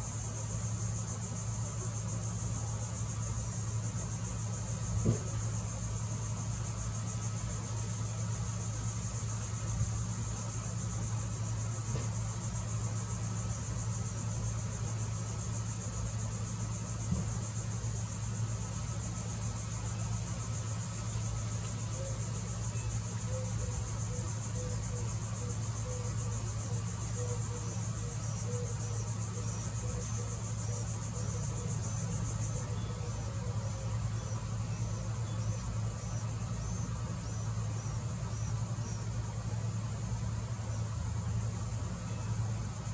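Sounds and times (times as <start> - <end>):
constant low hum: 0.0 - 42.9
insect chorus droning: 0.0 - 42.9.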